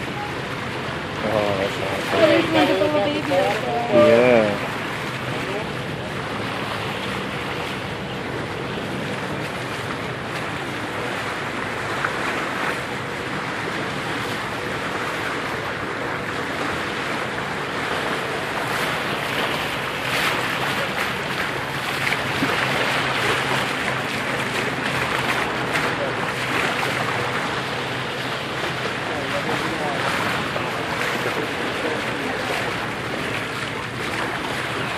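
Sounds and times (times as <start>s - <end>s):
low motor hum: 0.0s - 34.9s
water splashing past boat: 0.0s - 34.9s.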